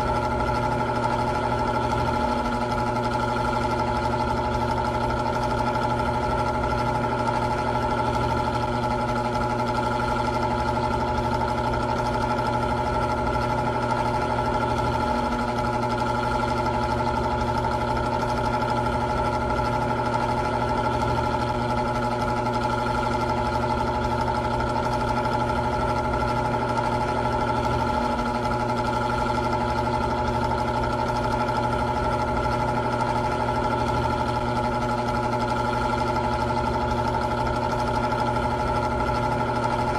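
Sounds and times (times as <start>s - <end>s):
electric fan humming: 0.0s - 39.9s.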